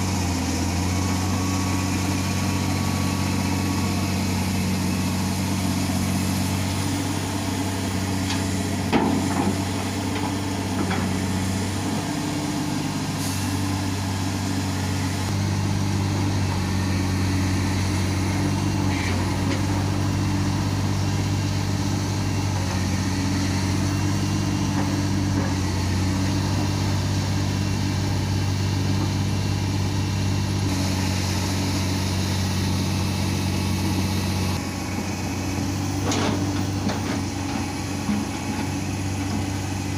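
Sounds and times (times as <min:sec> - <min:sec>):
heavy diesel excavator engine: 0:00.0 - 0:39.9.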